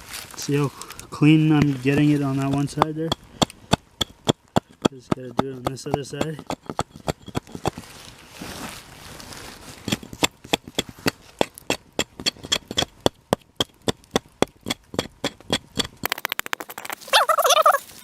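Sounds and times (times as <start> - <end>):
tool scraping charred wood: 0.2 - 18.0.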